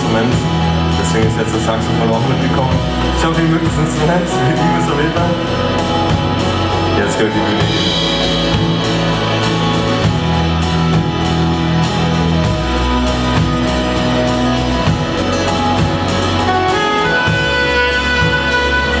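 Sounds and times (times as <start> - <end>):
bass line: 0.0 - 19.0
drum kit beat: 0.0 - 19.0
saxophone: 2.8 - 19.0.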